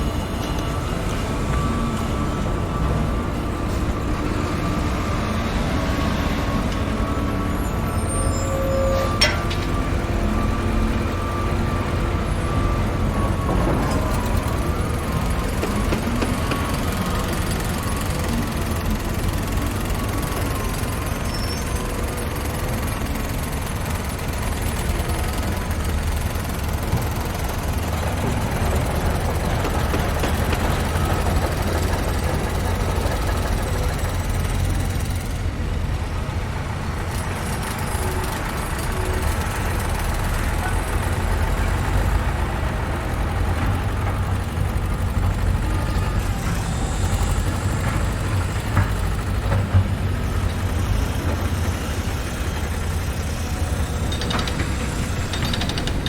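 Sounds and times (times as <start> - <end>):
heavy engine rumbling: 0.0 - 56.0.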